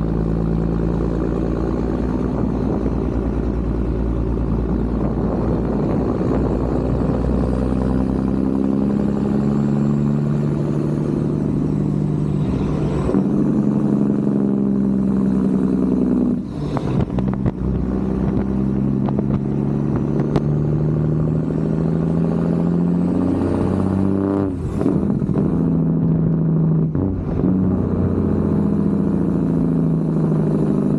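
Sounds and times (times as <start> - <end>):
truck diesel engine shifting gears: 0.0 - 30.9.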